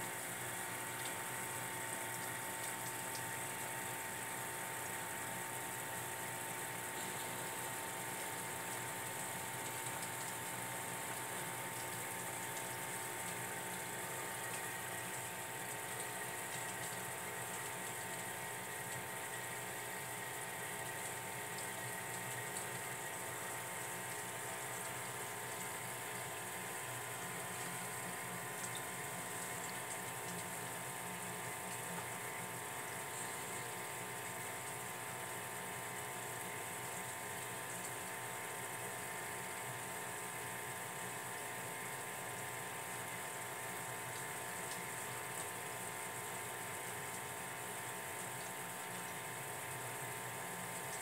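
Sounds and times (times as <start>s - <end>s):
aquarium filter humming: 0.0s - 51.0s
water trickling: 0.2s - 34.8s, 36.6s - 38.2s, 43.3s - 51.0s.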